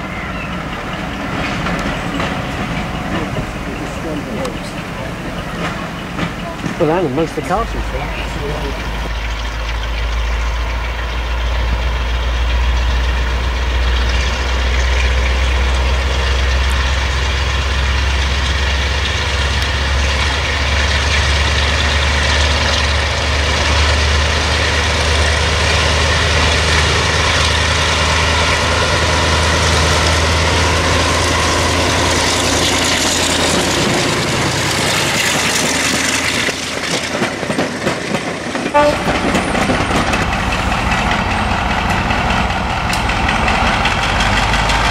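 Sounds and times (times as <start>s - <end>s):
diesel locomotive engine droning: 0.0s - 44.9s
passenger coaches rolling past: 0.0s - 44.9s.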